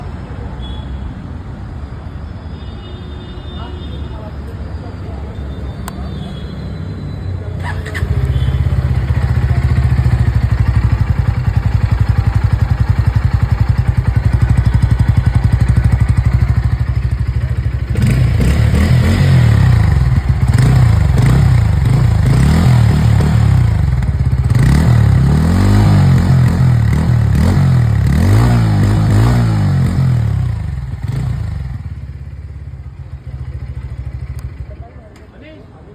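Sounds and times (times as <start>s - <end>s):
motorcycle engine idling and revving: 5.8s - 35.7s.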